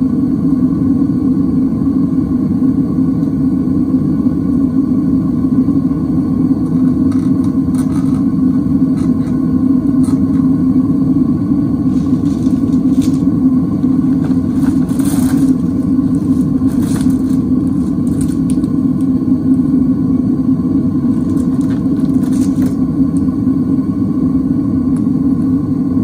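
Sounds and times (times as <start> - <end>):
furnace burner rumble: 0.0 - 26.0.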